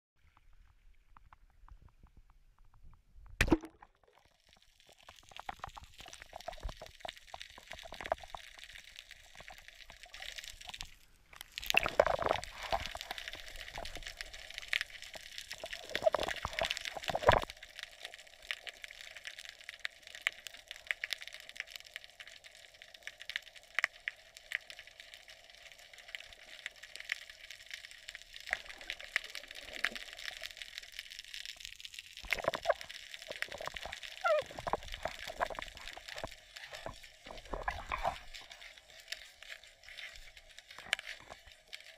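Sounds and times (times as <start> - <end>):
water sloshing underwater: 0.2 - 17.9, 25.6 - 41.9
underwater clicks and crackles: 0.2 - 41.9.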